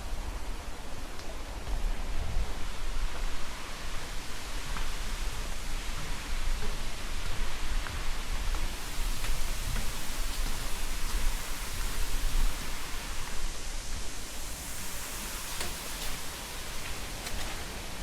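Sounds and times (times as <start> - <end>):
wind buffeting microphone: 0.0 - 18.0
wind through foliage hiss: 0.0 - 18.0.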